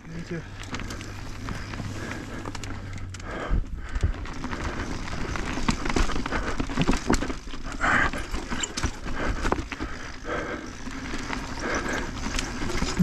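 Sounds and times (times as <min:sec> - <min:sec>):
bike rattling over rocks: 0:00.1 - 0:13.0.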